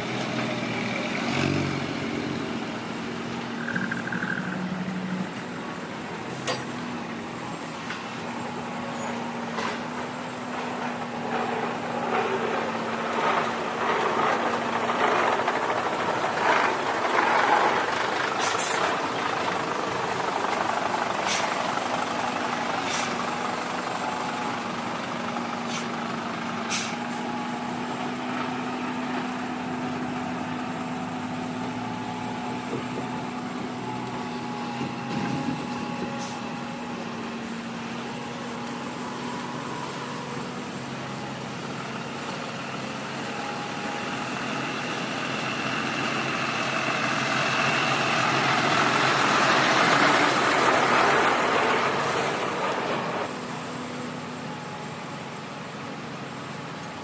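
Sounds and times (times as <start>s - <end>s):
diesel machinery running: 0.0s - 57.0s.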